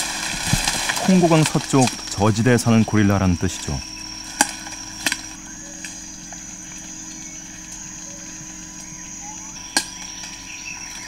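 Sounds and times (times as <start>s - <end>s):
high-pitched insect drone: 0.0s - 11.0s
low hum: 0.0s - 11.0s.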